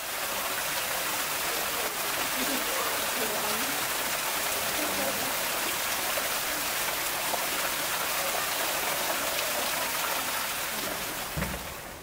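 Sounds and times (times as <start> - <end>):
small waterfall over rocks: 0.0 - 12.0.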